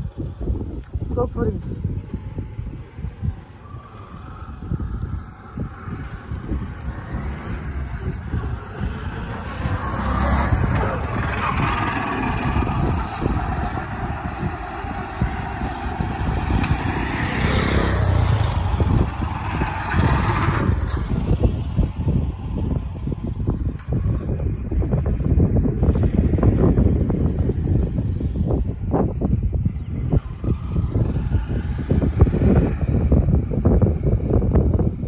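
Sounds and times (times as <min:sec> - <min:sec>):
motor vehicle running: 0:00.0 - 0:35.0
wind buffeting microphone: 0:00.0 - 0:35.0.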